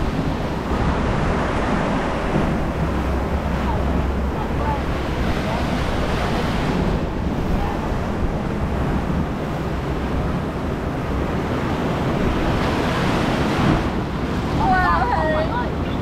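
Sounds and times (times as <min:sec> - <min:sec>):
whitewater rushing: 0:00.0 - 0:16.0.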